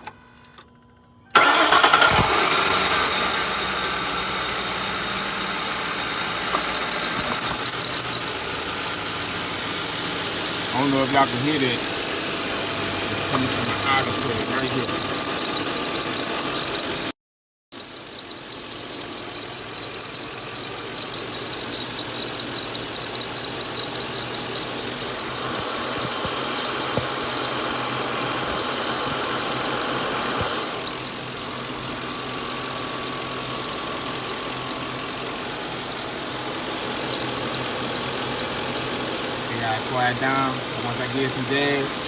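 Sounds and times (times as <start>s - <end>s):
car engine idling: 1.3s - 17.1s, 17.7s - 42.0s
high-pitched belt pulley squeal: 1.4s - 17.1s, 17.8s - 42.0s.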